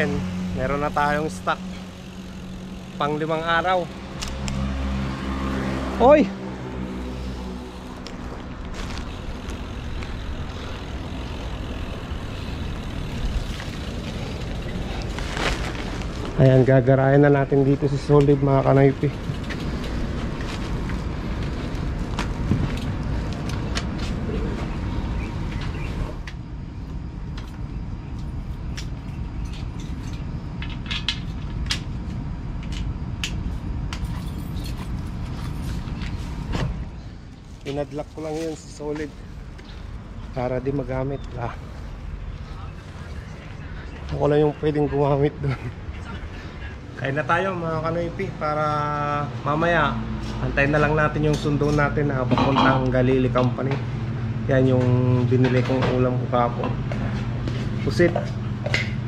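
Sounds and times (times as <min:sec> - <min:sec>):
bike tyres rolling on concrete: 0:00.0 - 0:45.8, 0:47.0 - 0:59.0
steady low rumble: 0:06.3 - 0:59.0.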